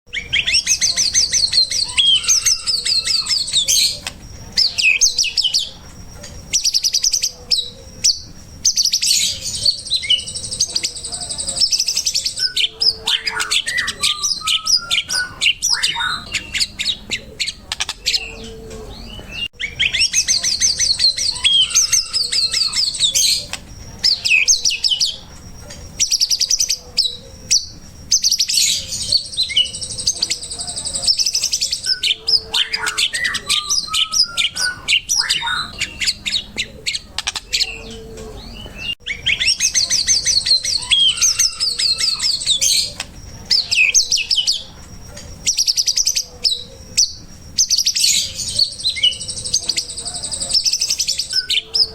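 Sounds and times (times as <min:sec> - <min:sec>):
songbird trills and chirps: 0:00.1 - 0:51.9.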